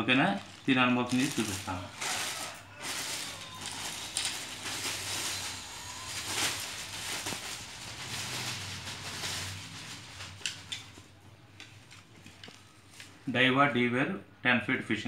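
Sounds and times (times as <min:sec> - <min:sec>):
plastic wrapping crinkling: 0:00.0 - 0:13.2.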